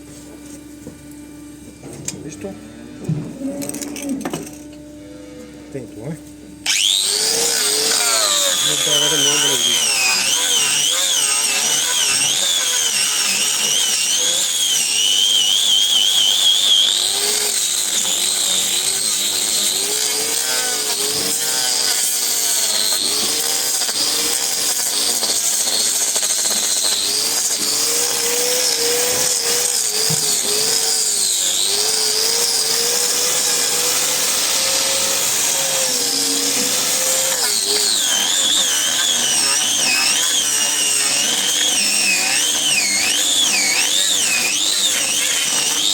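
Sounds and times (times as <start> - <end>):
power tool trimming hooves: 0.0 - 45.9.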